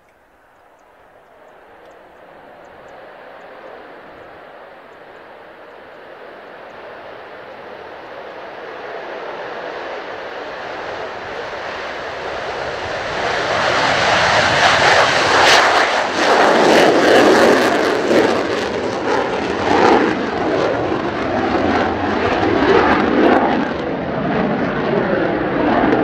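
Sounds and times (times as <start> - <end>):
jet engine afterburner roar: 1.3 - 26.0.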